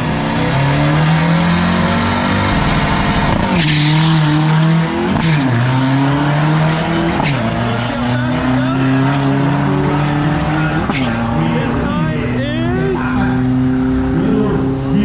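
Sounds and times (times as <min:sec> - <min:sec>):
diesel truck engine at full power: 0:00.0 - 0:15.0.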